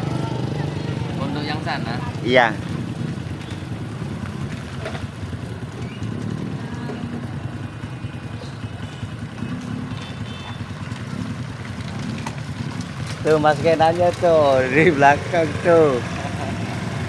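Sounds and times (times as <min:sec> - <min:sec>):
motorcycle engines low rumble: 0:00.0 - 0:17.0.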